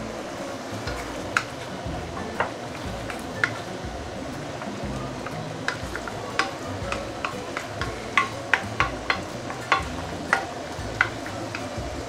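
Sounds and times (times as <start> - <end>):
sauce sizzling: 0.0 - 12.0
wooden spatula scraping a wok: 0.8 - 12.0.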